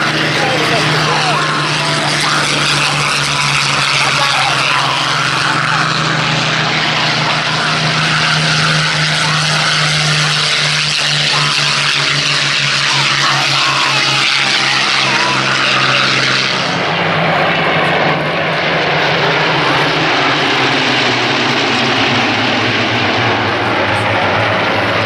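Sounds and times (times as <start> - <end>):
propeller planes taking off: 0.0 - 25.0.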